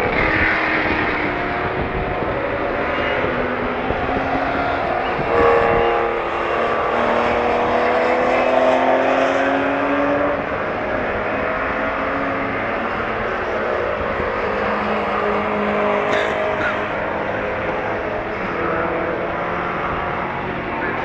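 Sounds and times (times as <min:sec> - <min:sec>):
racing car engine accelerating: 0:00.0 - 0:21.0.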